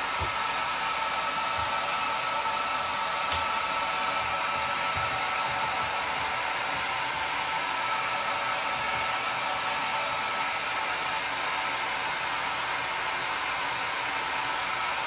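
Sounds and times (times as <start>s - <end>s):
hair dryer blowing air: 0.0s - 15.0s.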